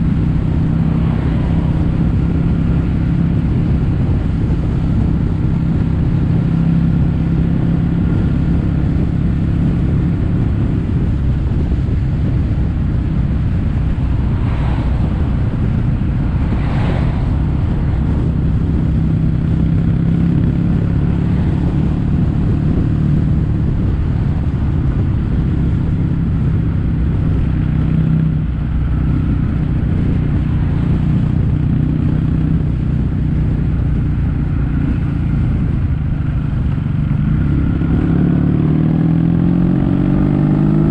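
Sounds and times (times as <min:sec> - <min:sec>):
motorcycle engine low exhaust note: 0:00.0 - 0:16.6, 0:17.2 - 0:40.9.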